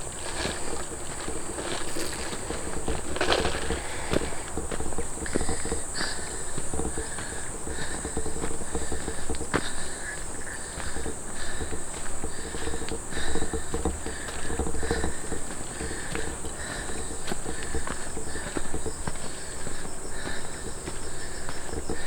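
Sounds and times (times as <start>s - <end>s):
footsteps on dirt trail: 0.0s - 22.0s
insects droning: 0.0s - 22.0s.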